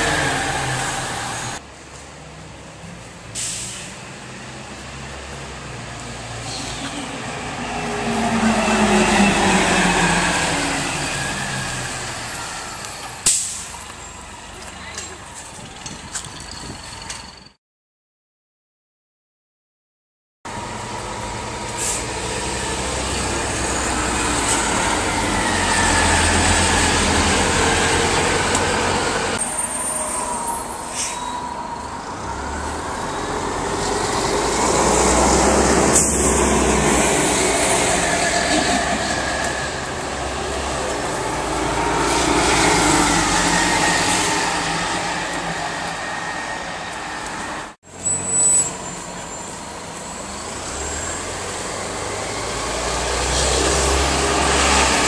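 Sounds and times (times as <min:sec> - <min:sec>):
buses driving past: 0:00.0 - 0:17.5, 0:20.5 - 0:55.0.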